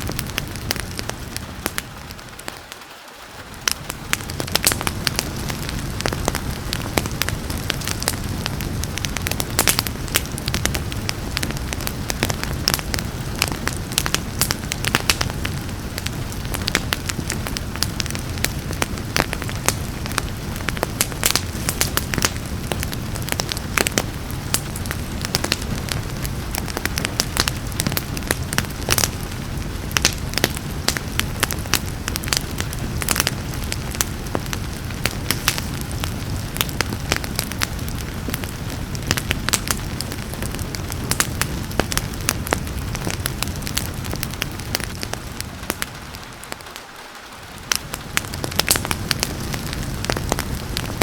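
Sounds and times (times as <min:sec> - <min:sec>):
rain hissing: 0:00.0 - 0:51.0
wood fire crackling and popping: 0:00.0 - 0:51.0.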